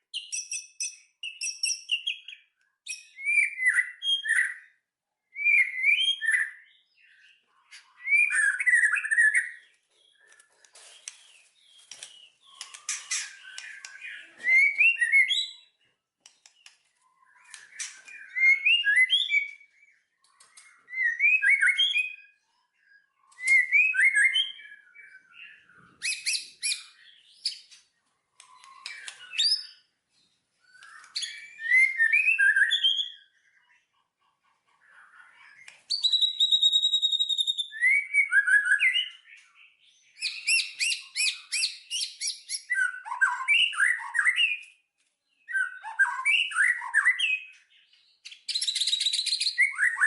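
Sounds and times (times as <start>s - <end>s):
songbird warbling chirps: 5.4s - 30.0s, 30.6s - 33.9s, 34.7s - 50.0s.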